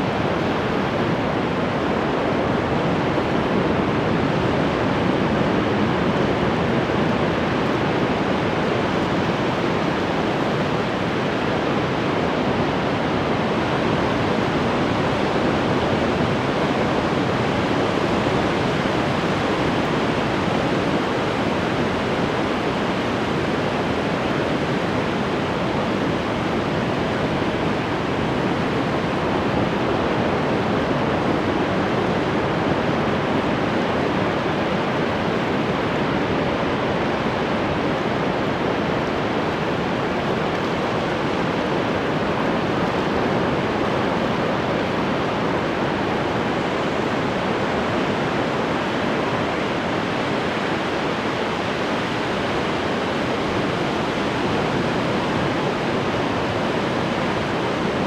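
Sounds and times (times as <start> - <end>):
ocean surf washing on shore: 0.0 - 58.0.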